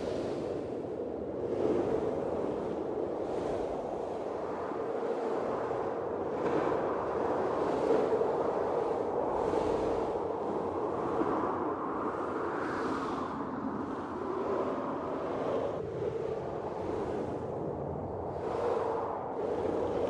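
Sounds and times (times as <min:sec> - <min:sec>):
blizzard wind howling: 0:00.0 - 0:20.0.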